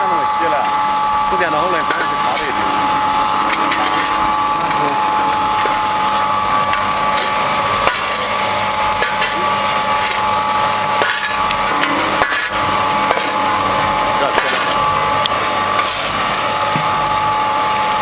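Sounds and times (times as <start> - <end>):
high hum: 0.0 - 18.0.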